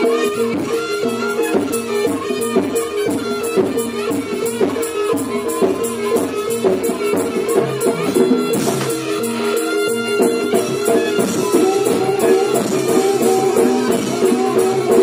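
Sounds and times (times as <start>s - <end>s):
fast jingling beat: 0.0s - 15.0s.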